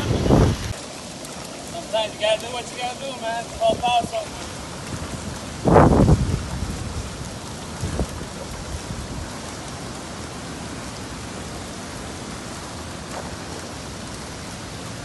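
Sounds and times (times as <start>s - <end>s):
heavy rain on flooded street: 0.0s - 15.0s.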